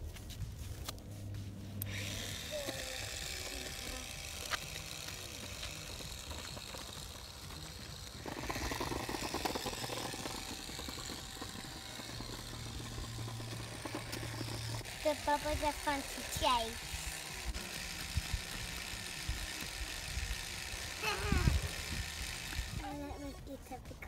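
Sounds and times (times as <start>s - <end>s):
low motor hum: 0.0s - 24.0s
scooter wheels rattling: 2.0s - 23.0s.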